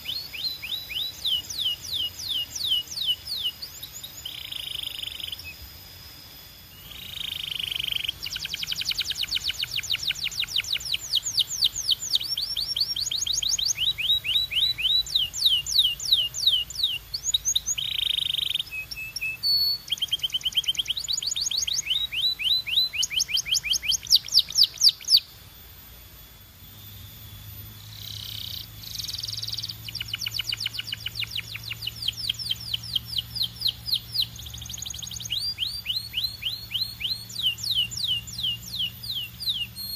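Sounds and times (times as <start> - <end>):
canary singing trills: 0.0 - 5.8, 6.6 - 25.4, 26.8 - 39.9.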